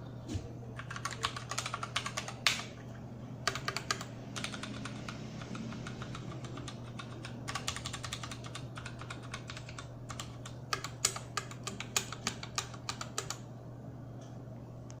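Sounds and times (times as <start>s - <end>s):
steady low hum: 0.0s - 15.0s
mechanical keyboard typing: 0.8s - 2.8s, 3.4s - 13.4s.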